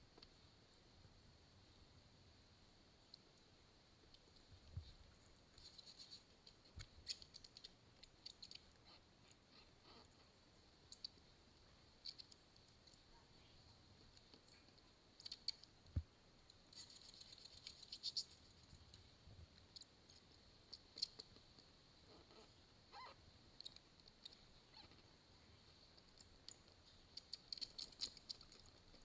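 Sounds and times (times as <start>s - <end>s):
faint clicking and scratching: 0.0s - 29.0s.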